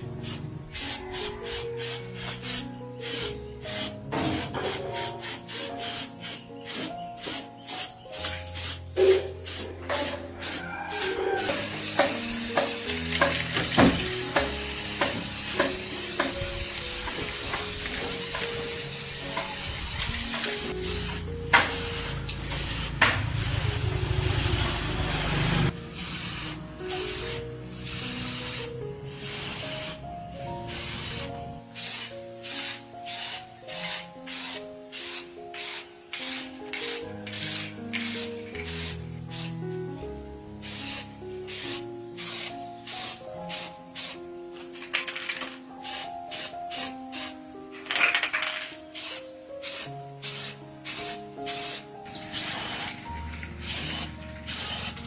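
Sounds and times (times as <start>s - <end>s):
short hissing strokes: 0.0s - 39.7s, 40.6s - 44.3s, 48.9s - 55.0s
soft background music: 0.0s - 55.0s
workshop hissing: 0.0s - 55.0s.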